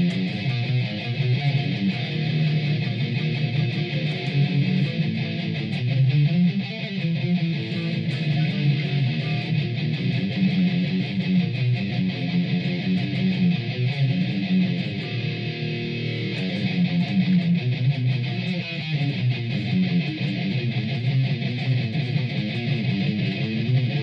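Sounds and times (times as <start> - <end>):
electric guitar riff: 0.0 - 24.0.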